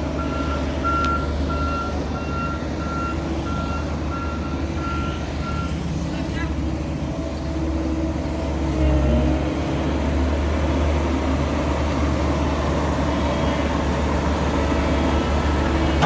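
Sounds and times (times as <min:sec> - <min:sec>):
diesel construction machinery droning: 0:00.0 - 0:16.0.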